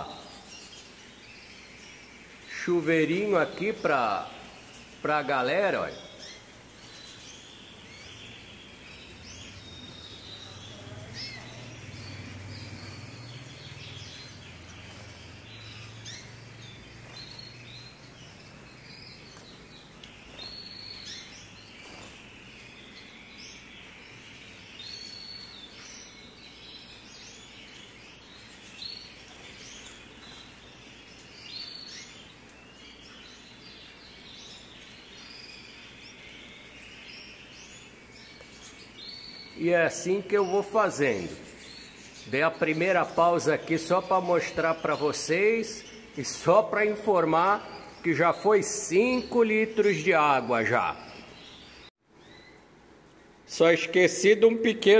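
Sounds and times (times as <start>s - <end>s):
canary chirps: 0.0s - 54.9s.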